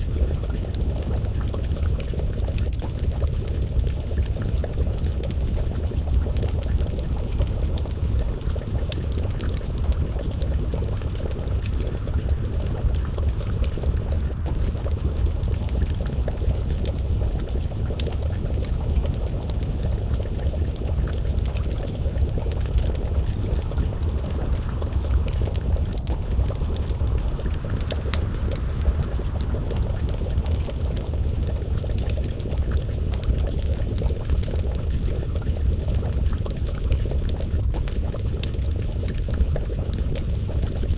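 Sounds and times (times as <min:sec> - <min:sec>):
stew bubbling in pot: 0:00.0 - 0:40.9
wood fire crackling: 0:00.0 - 0:40.9.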